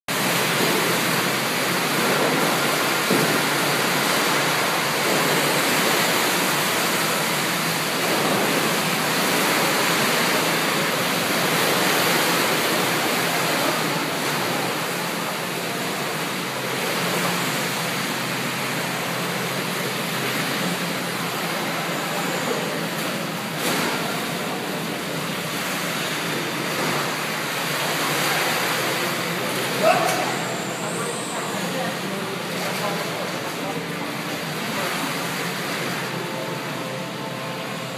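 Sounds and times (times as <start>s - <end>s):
pool water sloshing and surging: 0.1s - 37.9s.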